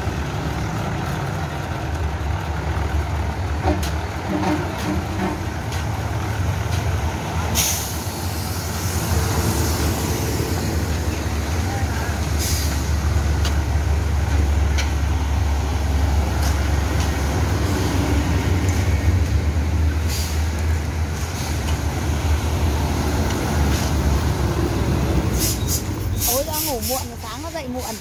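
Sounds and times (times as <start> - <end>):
heavy trucks rumbling past: 0.0 - 28.0.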